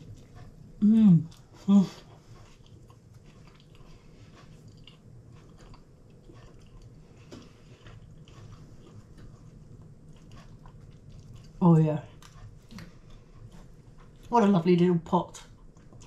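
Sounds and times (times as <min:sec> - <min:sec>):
person chewing food: 0:00.0 - 0:14.3, 0:15.4 - 0:16.0.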